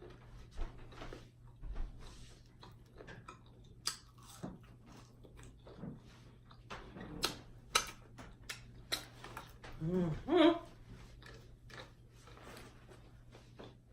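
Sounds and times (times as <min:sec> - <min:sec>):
person chewing crunchy food: 0:00.8 - 0:09.8, 0:10.7 - 0:13.9.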